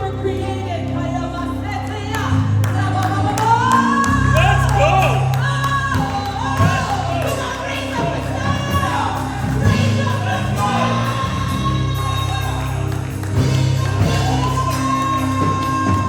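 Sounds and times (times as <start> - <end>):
gospel voices singing: 0.0 - 16.0
instrumental backing with bass: 0.0 - 16.0.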